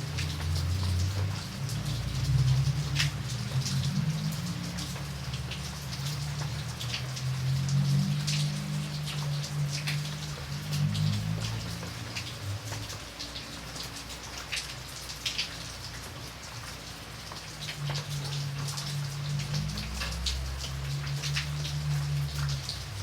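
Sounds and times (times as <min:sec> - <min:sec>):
raindrops tapping on a surface: 0:00.0 - 0:23.0.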